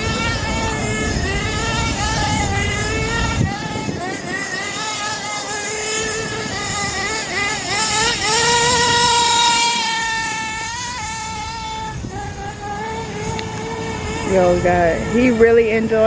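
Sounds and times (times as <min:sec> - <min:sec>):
rc car engine at high revs: 0:00.0 - 0:16.0.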